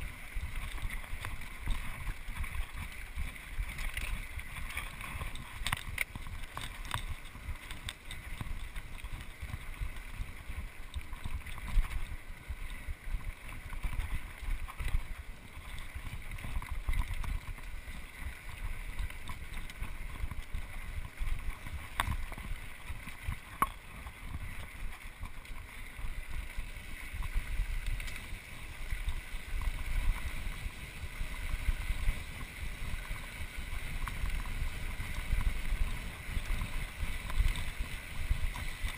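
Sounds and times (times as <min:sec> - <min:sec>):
bike tyres on dirt: 0:00.0 - 0:38.9.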